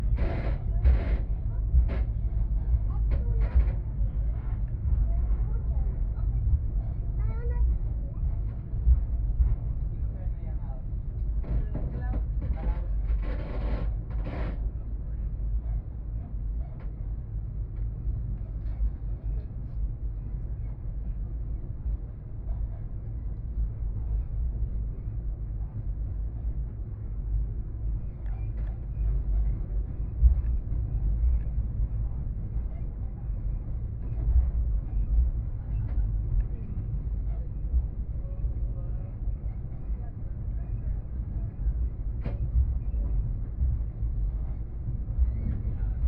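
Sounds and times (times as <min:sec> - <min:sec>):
passenger train rumbling: 0:00.0 - 0:46.0.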